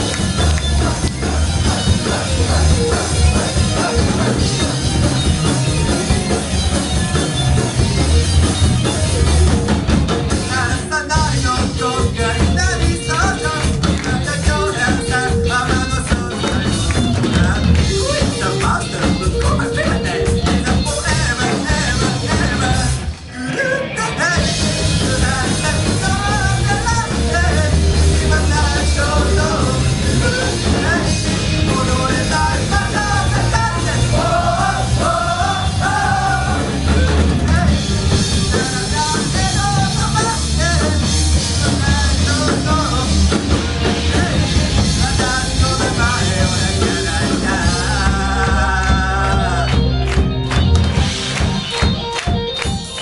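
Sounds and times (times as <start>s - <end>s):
lead vocalist singing: 0.0s - 6.4s, 10.3s - 50.0s
rock band playing live: 0.0s - 53.0s.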